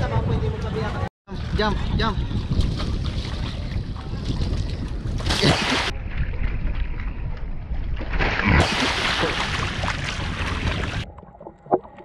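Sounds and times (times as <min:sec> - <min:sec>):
wind buffeting microphone: 0:00.0 - 0:08.2, 0:09.4 - 0:11.1.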